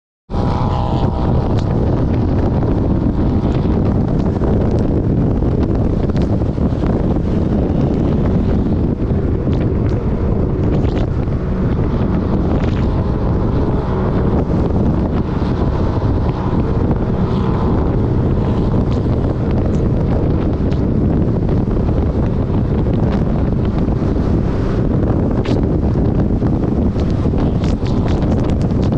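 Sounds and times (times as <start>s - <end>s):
vehicle engine running: 0.3s - 28.9s
wind buffeting camera: 0.3s - 28.9s.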